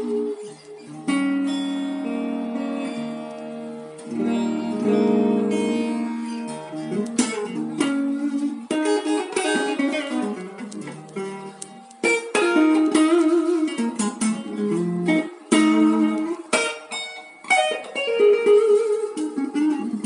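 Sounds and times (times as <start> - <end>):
electric guitar playing: 0.0 - 20.0.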